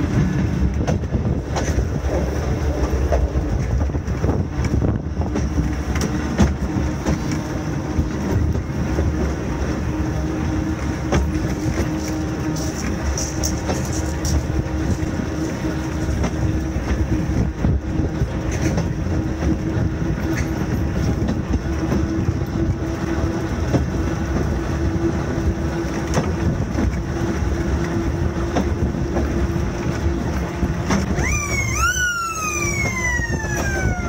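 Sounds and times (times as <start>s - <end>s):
electric railway car humming: 0.0s - 34.0s
wheels clicking over rail joints: 0.0s - 34.0s
wheels rumbling on rails: 0.0s - 34.0s
wind on microphone: 0.0s - 34.0s.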